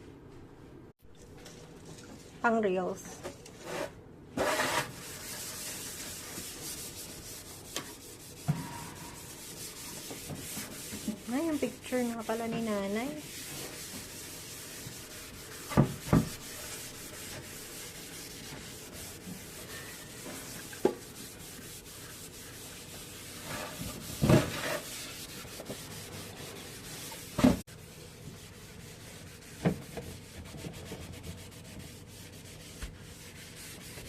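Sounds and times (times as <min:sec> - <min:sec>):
scrubbing a surface: 0:03.6 - 0:34.0.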